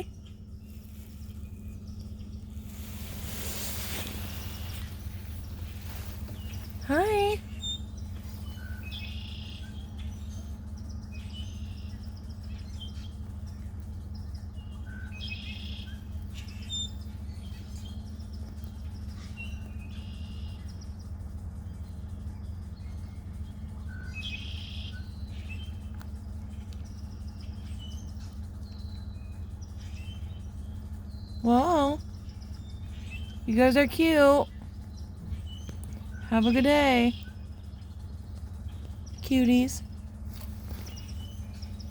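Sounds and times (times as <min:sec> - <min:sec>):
small songbirds singing: 0:00.0 - 0:41.9
steady low hum: 0:00.0 - 0:41.9.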